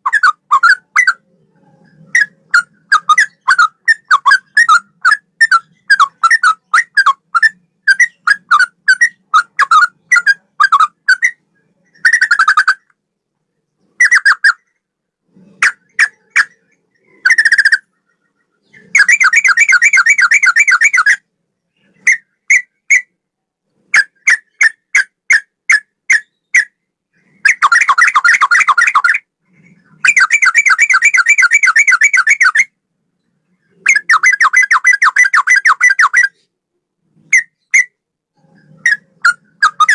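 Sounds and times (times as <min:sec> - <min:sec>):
bird singing whistled notes: 0:00.0 - 0:12.9, 0:15.6 - 0:23.2, 0:24.0 - 0:29.3, 0:29.9 - 0:36.5, 0:37.3 - 0:39.9.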